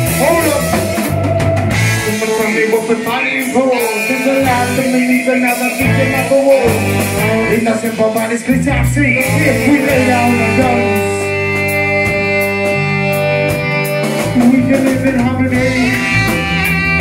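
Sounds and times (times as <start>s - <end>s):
person singing: 0.0s - 13.2s, 14.2s - 17.0s
drum kit: 0.0s - 17.0s
electric guitar: 0.0s - 17.0s
saxophone: 0.0s - 17.0s
trombone: 0.0s - 17.0s.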